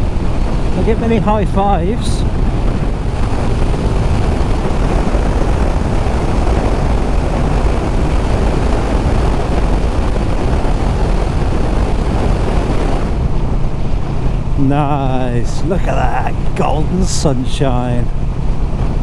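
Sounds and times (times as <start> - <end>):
motorcycle wind rush: 0.0 - 19.0.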